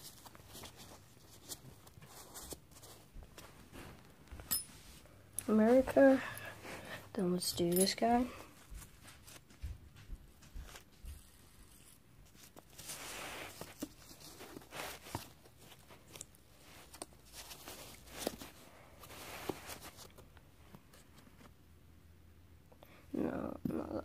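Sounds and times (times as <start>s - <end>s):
rustling: 0.0s - 21.6s.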